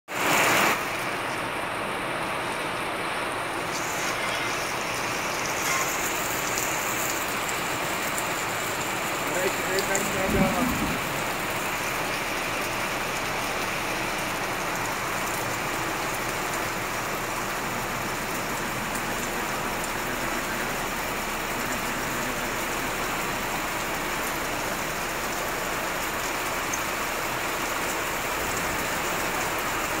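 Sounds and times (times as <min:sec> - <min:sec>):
rain on a metal roof: 0:00.1 - 0:30.0.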